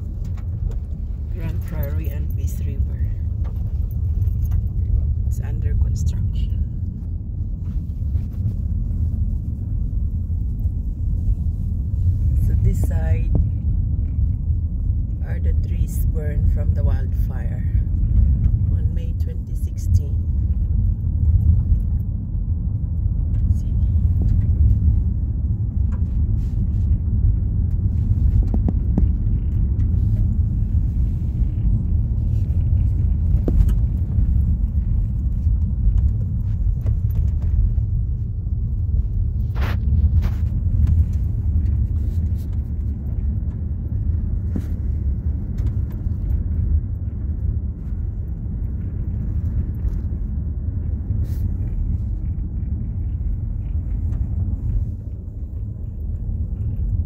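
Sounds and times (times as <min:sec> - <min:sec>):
car driving on dirt road: 0:00.0 - 0:57.0.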